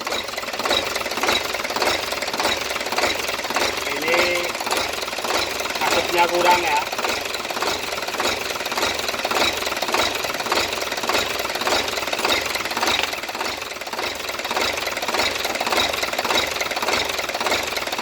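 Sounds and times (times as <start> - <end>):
diesel engine knocking clatter: 0.0 - 18.0.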